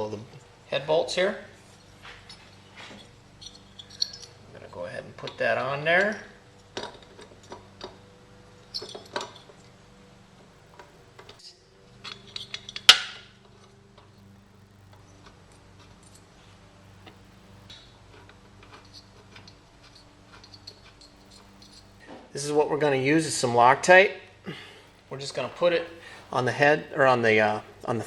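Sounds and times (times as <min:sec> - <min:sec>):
metallic clinks of engine parts: 0:00.0 - 0:22.1, 0:24.5 - 0:28.0
faint steady hum: 0:00.0 - 0:28.0.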